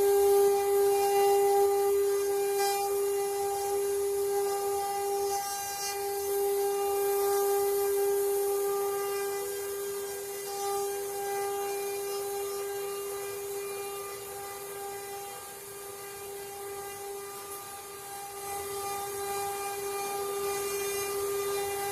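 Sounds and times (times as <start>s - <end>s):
router spindle whining: 0.0s - 21.9s.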